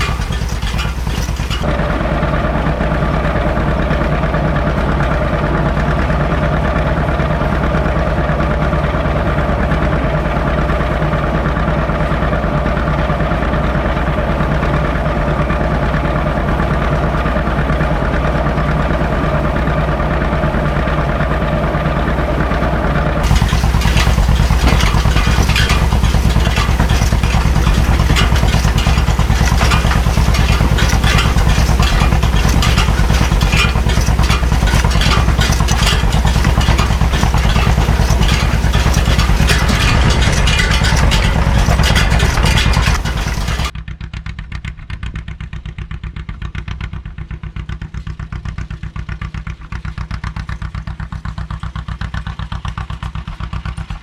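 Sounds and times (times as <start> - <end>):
dense rattling clatter: 0.0 - 43.8
tractor engine running: 0.0 - 54.0.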